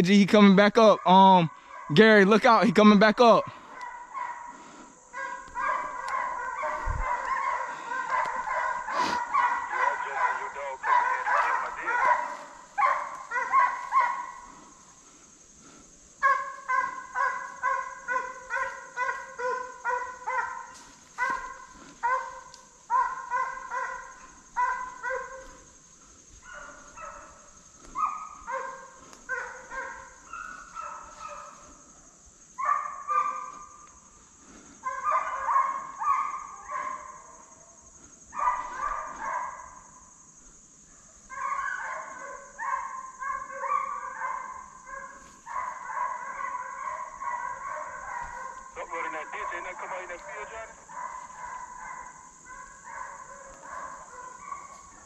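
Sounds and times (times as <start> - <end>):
hounds barking and baying: 0.0 - 55.0.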